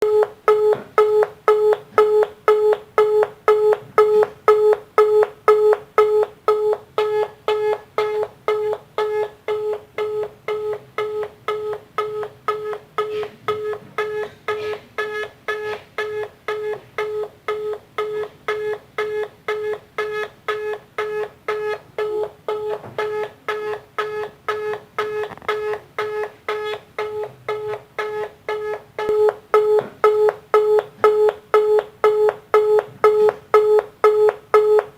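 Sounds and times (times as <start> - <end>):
telephone busy signal beeps: 0.0 - 34.9.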